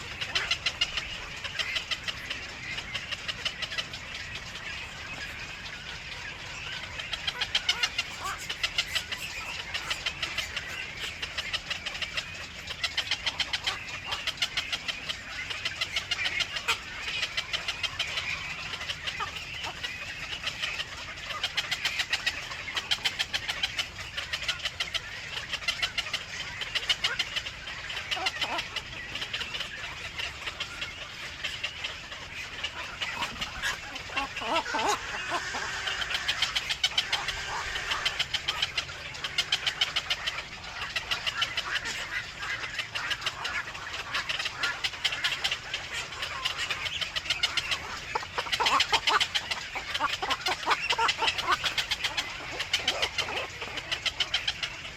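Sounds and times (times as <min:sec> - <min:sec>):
nestling birds chirping: 0:00.0 - 0:54.9.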